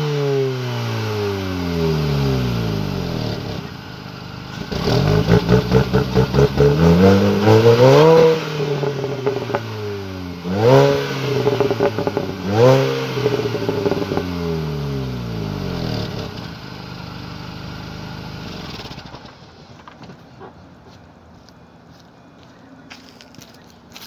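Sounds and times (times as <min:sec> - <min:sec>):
car engine revving: 0:00.0 - 0:19.7
car engine idling: 0:01.0 - 0:20.9.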